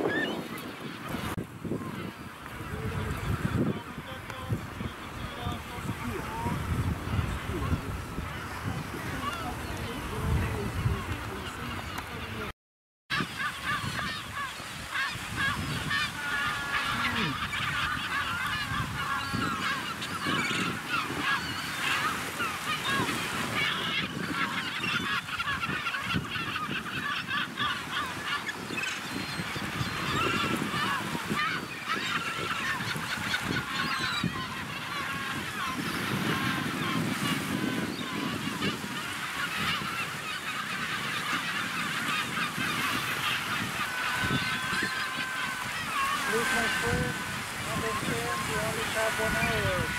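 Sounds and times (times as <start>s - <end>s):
gulls calling: 0.0s - 12.5s, 13.1s - 49.9s.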